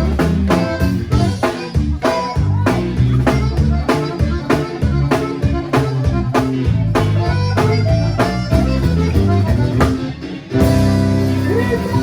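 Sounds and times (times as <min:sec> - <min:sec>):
accordion: 0:00.0 - 0:12.0
bajo sexto guitar: 0:00.0 - 0:12.0
bass: 0:00.0 - 0:12.0
steady drum beat: 0:00.0 - 0:12.0.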